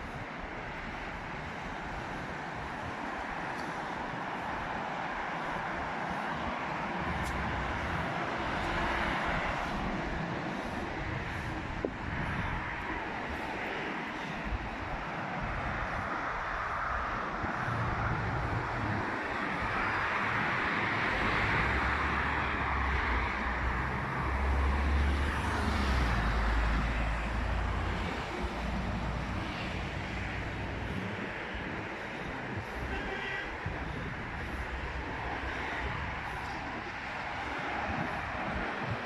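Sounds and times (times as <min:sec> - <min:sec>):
passing road traffic: 0:00.0 - 0:39.0.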